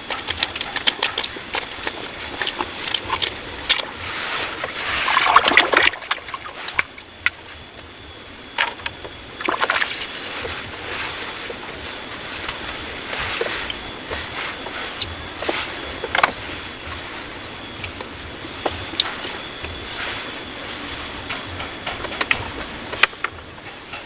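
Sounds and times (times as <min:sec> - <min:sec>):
water splashing and sloshing: 0:00.0 - 0:07.6, 0:08.5 - 0:21.1.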